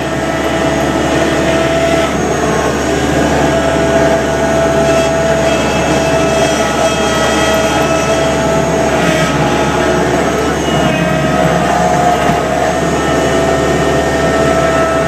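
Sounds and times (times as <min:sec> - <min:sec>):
skid steer engine running: 0:00.0 - 0:15.0
steady whine: 0:00.0 - 0:15.0.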